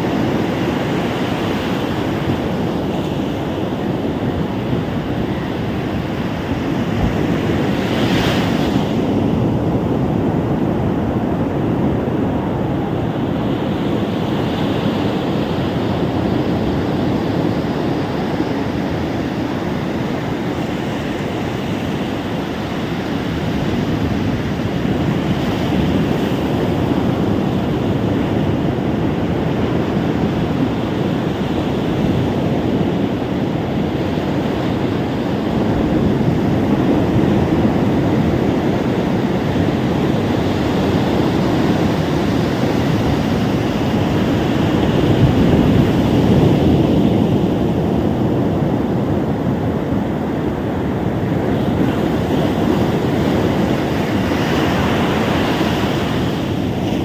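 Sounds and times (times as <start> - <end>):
waves breaking on beach: 0.0 - 57.0
wind buffeting microphone: 0.0 - 57.0.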